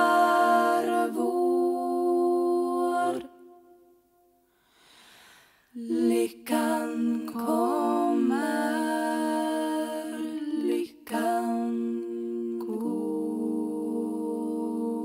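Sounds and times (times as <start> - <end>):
women singing in close harmony: 0.0 - 3.9, 5.8 - 15.0.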